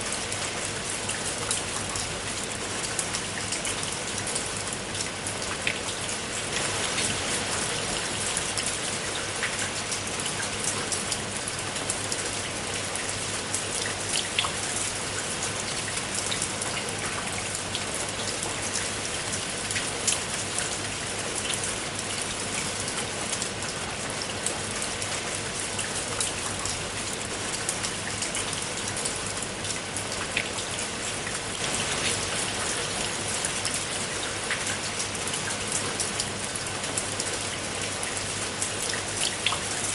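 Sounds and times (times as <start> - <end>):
rain pattering on a tiled roof: 0.0 - 39.9.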